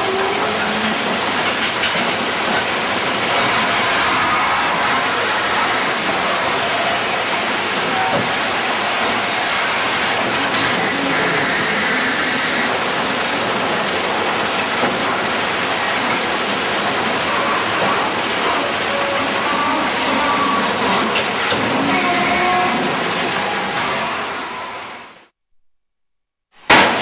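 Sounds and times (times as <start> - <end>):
dredge machinery din: 0.0 - 24.9.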